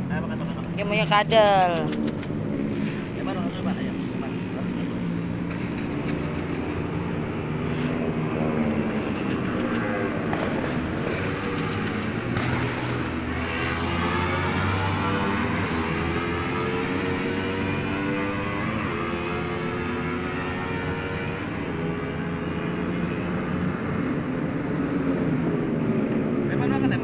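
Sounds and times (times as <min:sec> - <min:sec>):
vehicles passing: 0:00.0 - 0:27.0.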